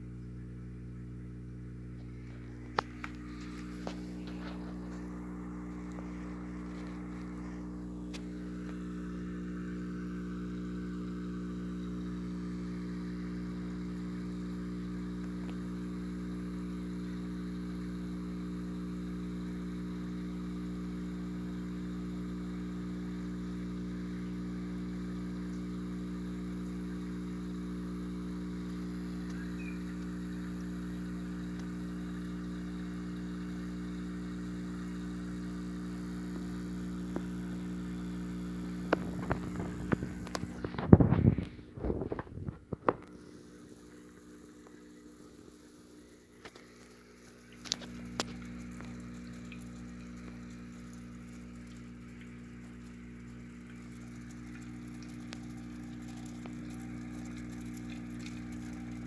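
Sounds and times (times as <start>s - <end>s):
air pump humming: 0.0s - 59.0s
faint bubbling: 1.4s - 59.0s.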